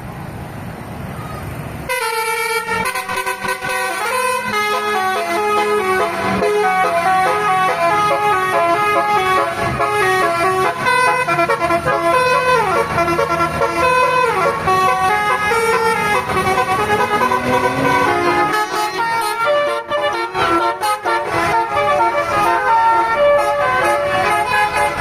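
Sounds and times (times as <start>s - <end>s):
bus horn melody: 1.9s - 25.0s.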